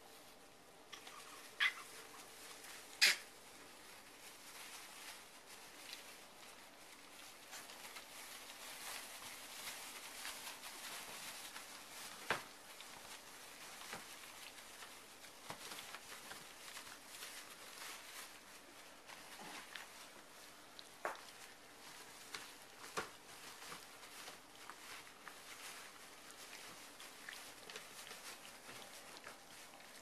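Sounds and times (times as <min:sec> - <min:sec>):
rustling in shredded paper: 0:00.0 - 0:30.0
puppies lapping food: 0:00.9 - 0:30.0.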